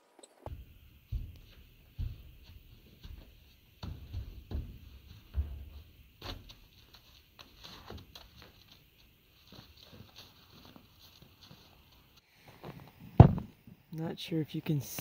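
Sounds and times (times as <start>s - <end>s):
hooves on trailer floor: 0.5s - 13.4s.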